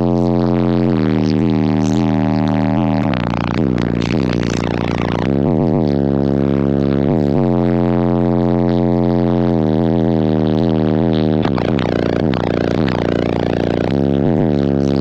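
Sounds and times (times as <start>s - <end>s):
loud bass-heavy music: 0.0s - 15.0s.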